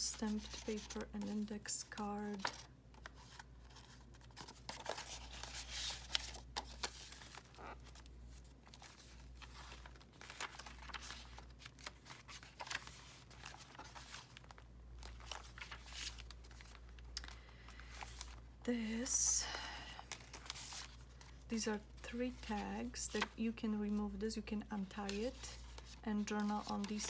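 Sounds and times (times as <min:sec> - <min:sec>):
paper rustling and crinkling: 0:00.0 - 0:23.6, 0:24.8 - 0:27.0.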